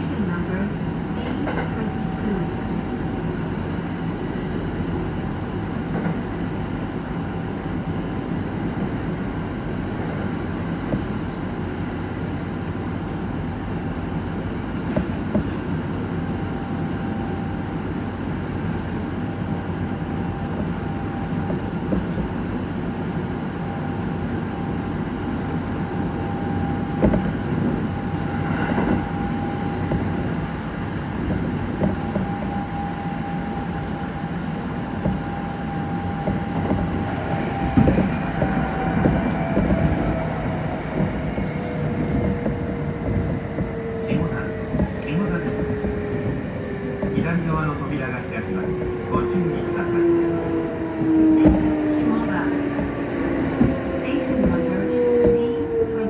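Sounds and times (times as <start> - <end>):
train rail rumble: 0.0 - 56.0.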